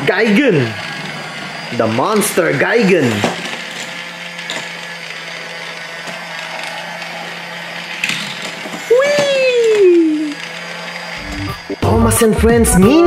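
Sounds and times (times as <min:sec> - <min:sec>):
toy train motor whirring: 0:00.0 - 0:12.3.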